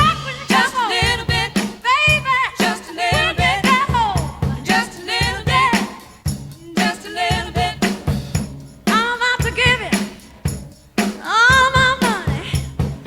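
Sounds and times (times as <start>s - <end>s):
song with vocals over drum beat: 0.0s - 13.0s.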